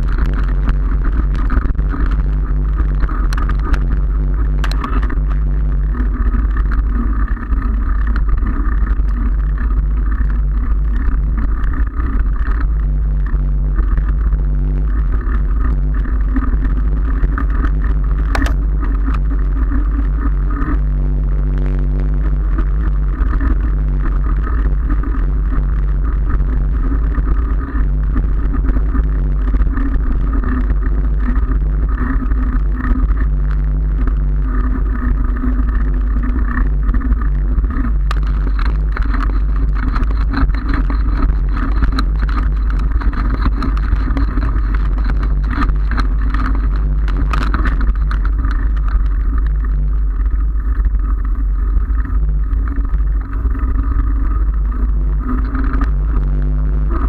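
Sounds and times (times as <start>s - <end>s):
bicycle tyre rumbling on pavers: 0.0s - 57.0s
wind buffeting on microphone: 0.0s - 57.0s.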